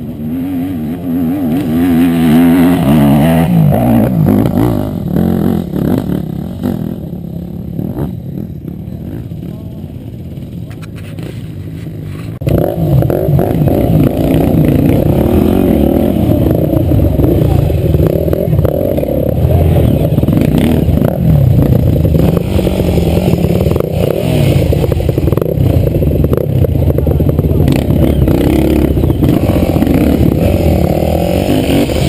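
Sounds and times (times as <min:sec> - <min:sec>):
motorcycle engine revving: 0:00.0 - 0:32.0
motorcycle rattling: 0:00.0 - 0:32.0.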